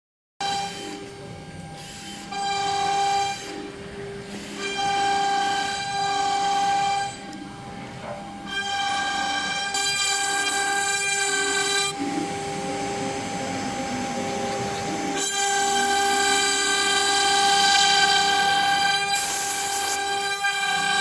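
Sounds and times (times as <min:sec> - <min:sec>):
wood router spindle whine: 0:00.4 - 0:21.0.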